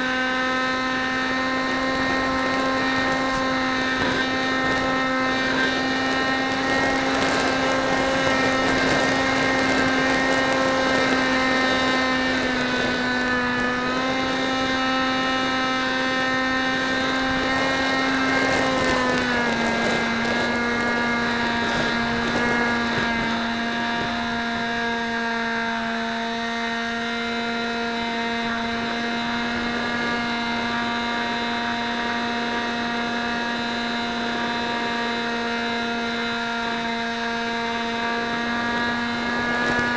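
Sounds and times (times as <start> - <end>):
model aircraft motor hum: 0.0 - 39.9.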